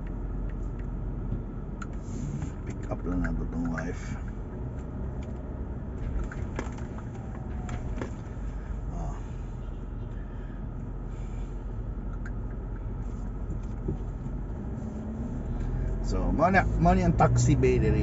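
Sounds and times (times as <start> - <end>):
car engine and tyres rumble: 0.0 - 18.0.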